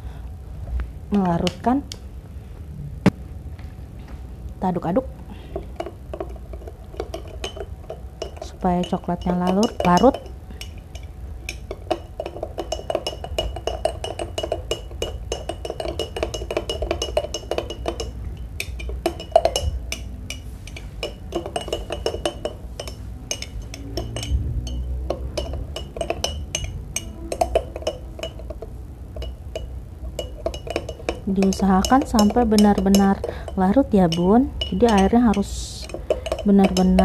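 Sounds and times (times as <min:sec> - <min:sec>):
teaspoon clinking in glass mug: 0:05.8 - 0:37.0.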